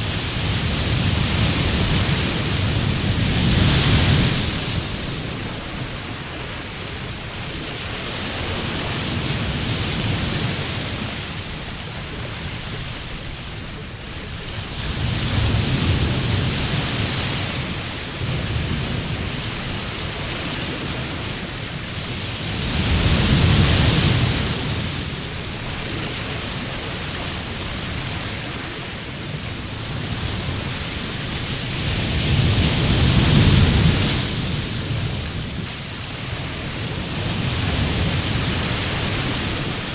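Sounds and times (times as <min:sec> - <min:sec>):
waves washing onto a beach: 0:00.0 - 0:39.9.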